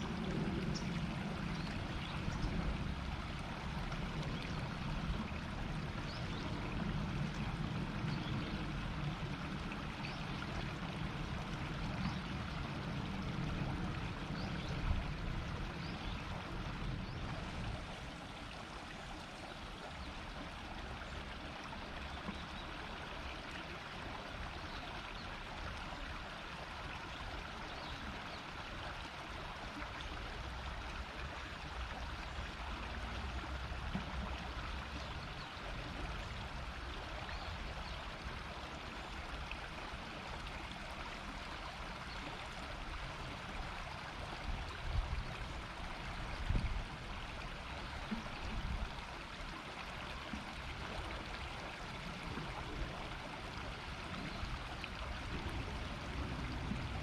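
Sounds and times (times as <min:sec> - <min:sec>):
shallow river rippling: 0:00.0 - 0:57.0.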